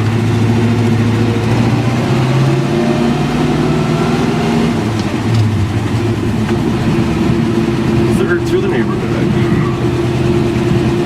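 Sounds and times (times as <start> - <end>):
truck engine pulling: 0.0 - 11.0.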